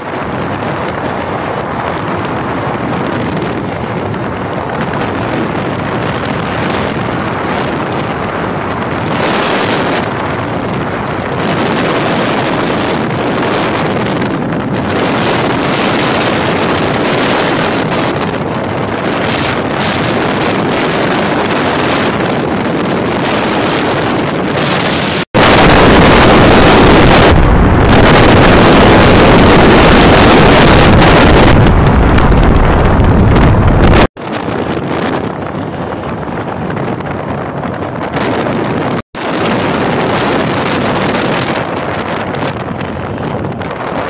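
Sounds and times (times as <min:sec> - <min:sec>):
harsh wind buffeting: 0:00.0 - 0:44.0
motorcycle engine and road noise: 0:00.0 - 0:44.0
wind rushing over microphone: 0:00.0 - 0:44.0.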